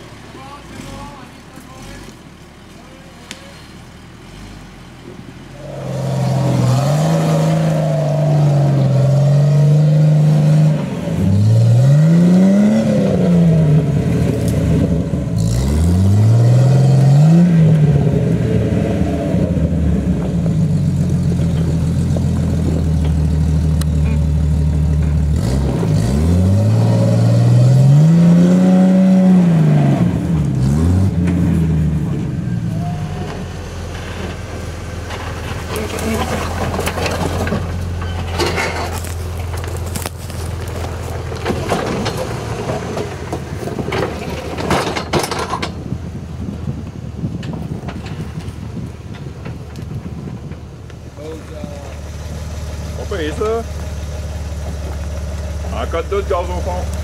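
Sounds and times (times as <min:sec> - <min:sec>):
off-road vehicle engine revving: 0:00.0 - 0:02.4, 0:03.2 - 0:48.9, 0:51.0 - 0:57.0.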